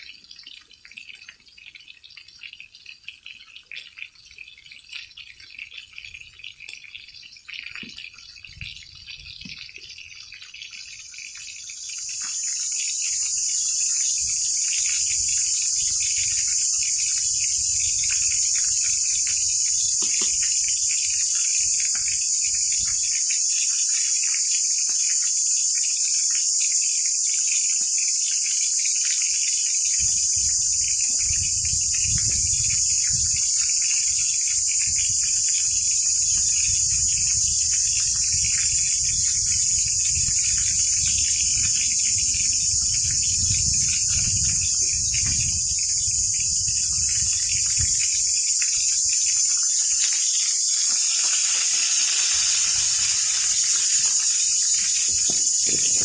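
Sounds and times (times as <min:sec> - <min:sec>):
insects buzzing: 0:05.0 - 0:56.0.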